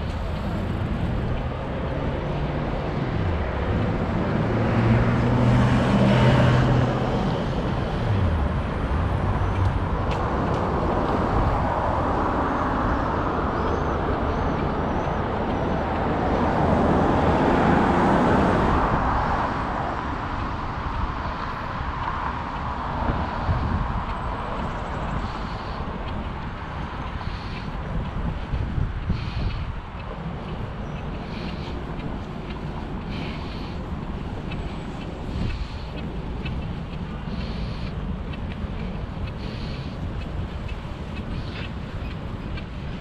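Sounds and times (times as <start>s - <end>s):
tyre hiss from passing cars: 0.0s - 43.0s
vehicle engine drone passing: 0.0s - 43.0s.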